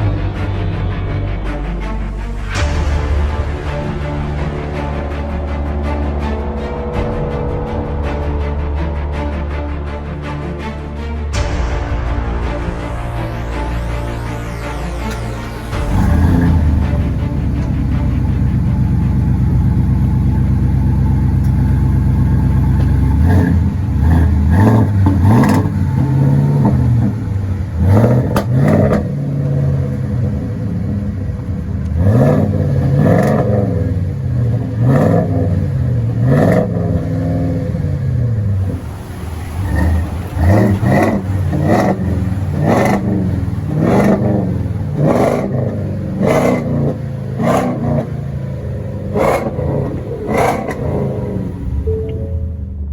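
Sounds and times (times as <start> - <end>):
truck engine idling and revving: 0.0 - 52.9.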